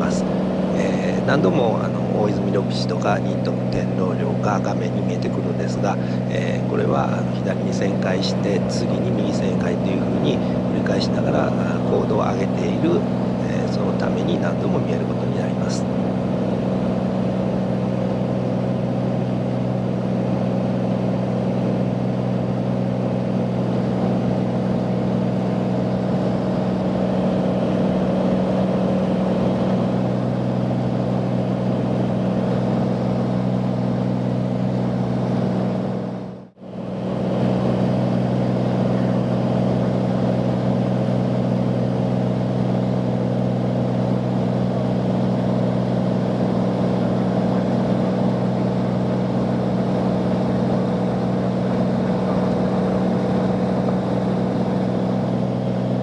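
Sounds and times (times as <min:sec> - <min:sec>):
propeller engine drone in cabin: 0:00.0 - 0:56.0.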